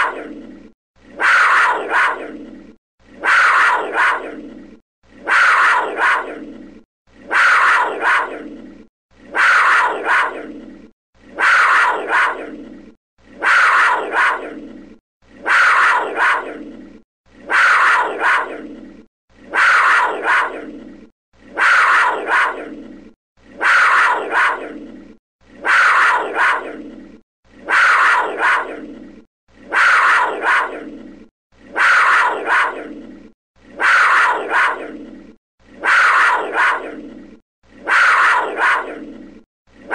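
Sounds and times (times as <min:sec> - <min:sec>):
big cat calling: 0:00.0 - 0:31.0, 0:31.6 - 0:39.3.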